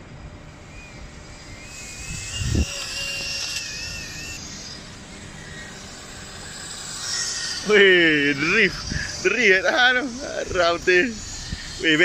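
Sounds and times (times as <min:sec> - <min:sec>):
small motors high whine: 0:00.0 - 0:12.0.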